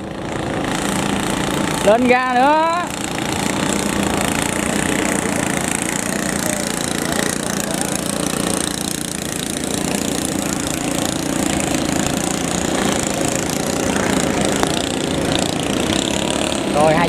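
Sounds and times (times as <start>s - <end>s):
boat engines running hard: 0.0s - 17.0s
water noise: 0.0s - 17.0s
wind: 0.0s - 17.0s.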